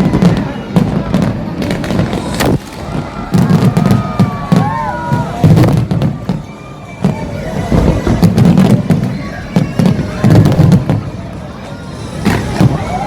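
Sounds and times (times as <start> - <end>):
fireworks bangs and crackles: 0.0 - 13.0
fireworks whistling: 0.0 - 13.0.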